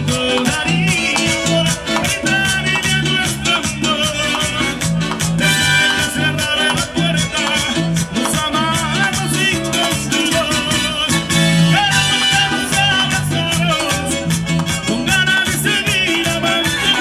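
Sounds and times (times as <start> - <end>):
latin dance band playing: 0.0 - 17.0
male lead vocal: 0.0 - 17.0.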